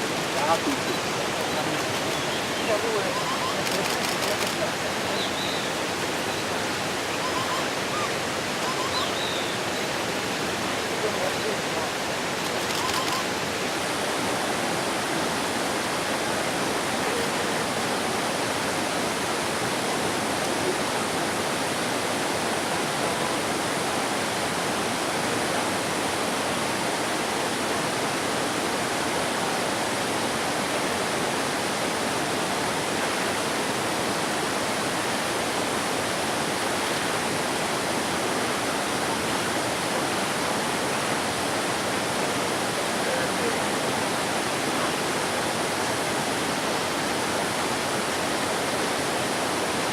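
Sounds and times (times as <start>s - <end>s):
flowing water: 0.0s - 49.9s.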